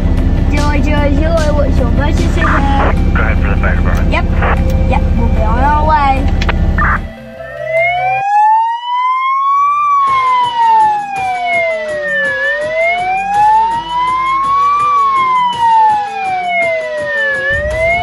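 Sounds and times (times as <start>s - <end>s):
fire truck siren wailing: 1.8s - 18.0s.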